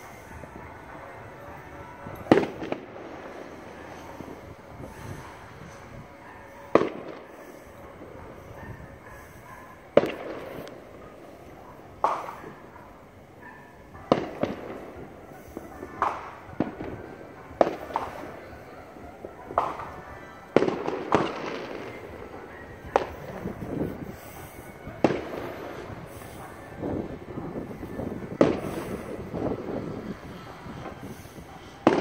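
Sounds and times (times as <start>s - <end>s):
fireworks bangs with echo: 0.0s - 32.0s.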